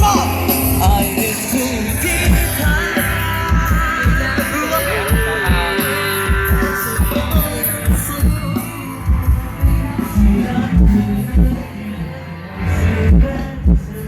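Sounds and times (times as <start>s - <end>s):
heavy bass beats: 0.0s - 14.0s
held melody line: 0.0s - 14.0s.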